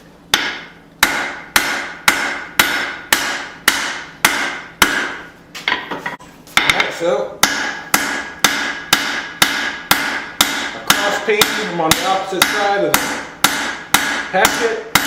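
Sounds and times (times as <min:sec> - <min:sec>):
hammer striking hot steel on anvil: 0:00.3 - 0:06.0, 0:06.6 - 0:15.0.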